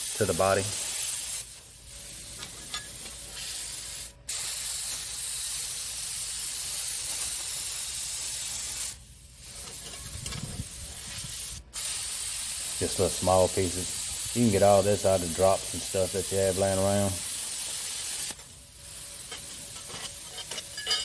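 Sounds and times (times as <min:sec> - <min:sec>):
cutting torch hissing: 0:00.0 - 0:04.8, 0:08.7 - 0:20.9.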